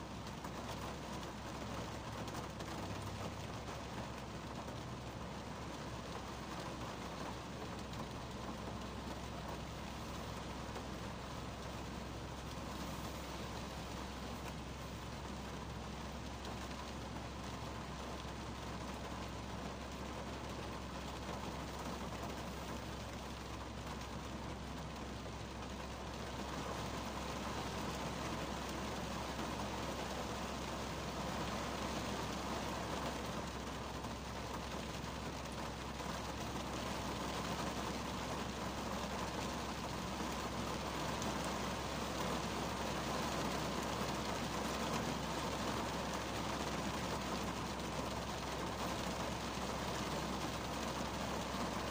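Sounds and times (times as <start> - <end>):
heavy rain on car roof: 0.0 - 51.9.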